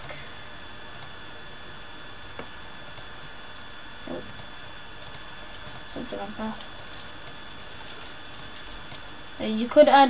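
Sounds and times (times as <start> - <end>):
microphone hiss: 0.0 - 10.0
thin electrical whine: 0.0 - 10.0.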